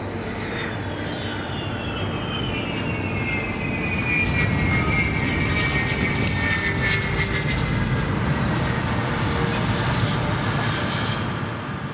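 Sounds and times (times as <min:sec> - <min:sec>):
jet engines winding down: 0:00.0 - 0:11.9.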